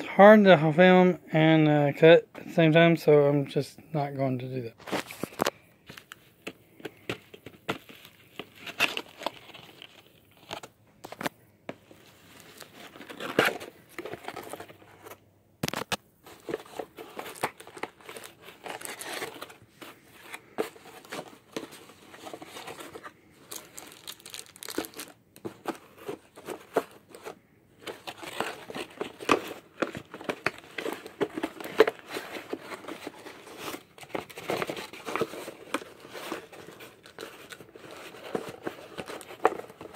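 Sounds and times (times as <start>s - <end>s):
cardboard packaging rustling and tearing: 4.8s - 39.9s.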